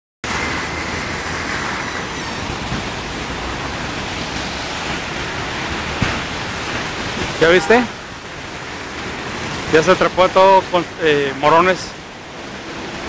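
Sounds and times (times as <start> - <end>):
river rushing roar: 0.2 - 13.0.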